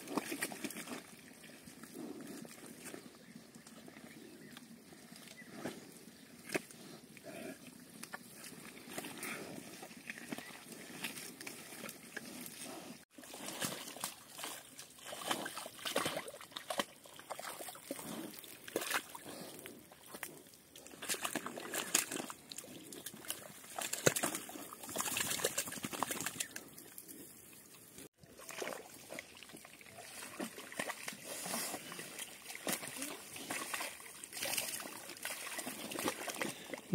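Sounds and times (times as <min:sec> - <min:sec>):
pigs splashing in water and mud: 0:00.0 - 0:36.9.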